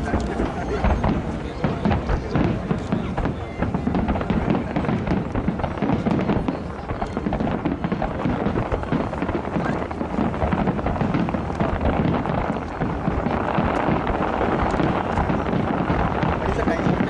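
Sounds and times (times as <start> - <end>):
fireworks bursts and crackles: 0.0 - 17.0.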